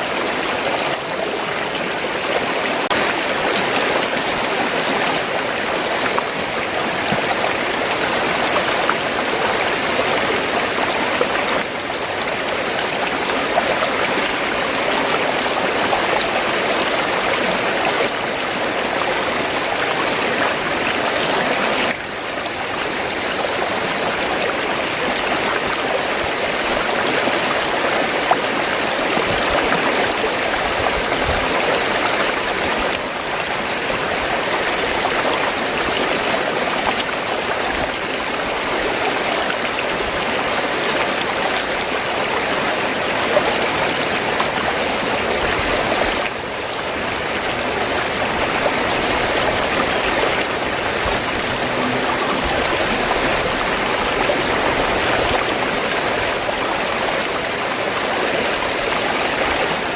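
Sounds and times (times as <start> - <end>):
stream rushing and gurgling: 0.0 - 59.9.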